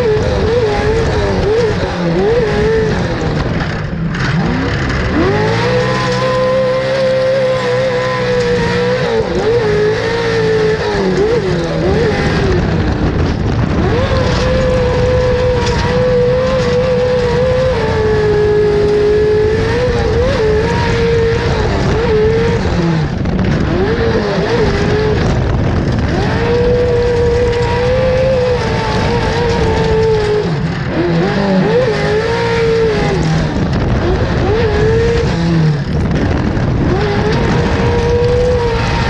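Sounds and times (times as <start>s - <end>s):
truck engine revving: 0.0s - 39.0s.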